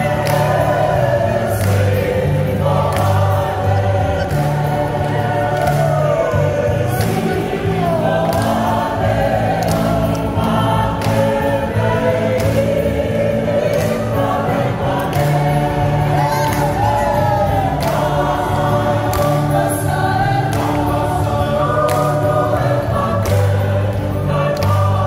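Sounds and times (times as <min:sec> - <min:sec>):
women's choir singing: 0:00.0 - 0:25.0.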